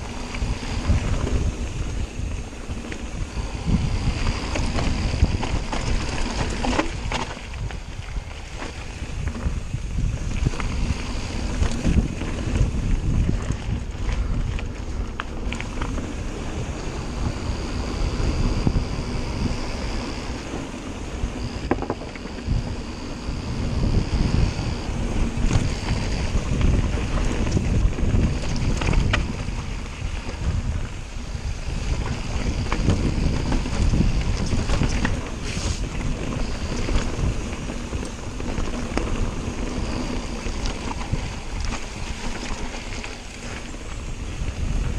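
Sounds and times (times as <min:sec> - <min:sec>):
high whine: 0:00.0 - 0:44.9
tyres rumbling on rough ground: 0:00.0 - 0:44.9
wind buffeting microphone: 0:00.0 - 0:44.9.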